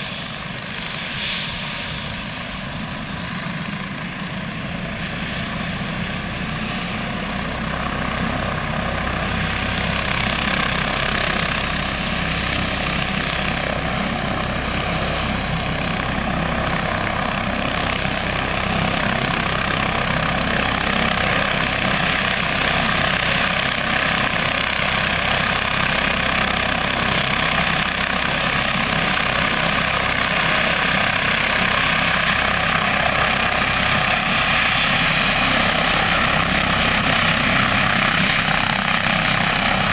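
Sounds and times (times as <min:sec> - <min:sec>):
helicopter turbines and rotor: 0:00.0 - 0:39.9.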